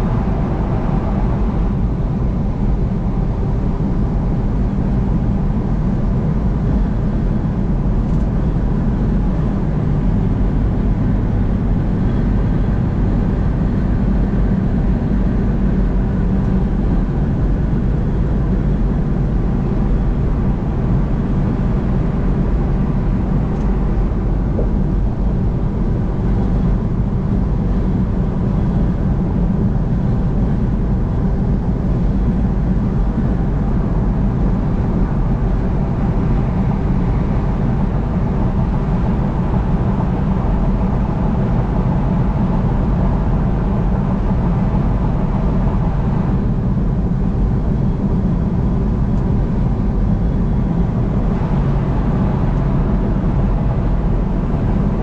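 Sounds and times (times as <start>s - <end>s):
car engine drone: 0.0s - 55.0s
tyre road noise: 0.0s - 55.0s.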